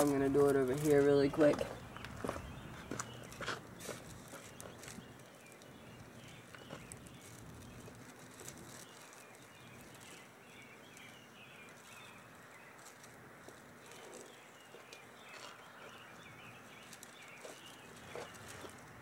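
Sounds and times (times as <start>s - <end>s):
distant birds chirping: 0.0s - 19.0s.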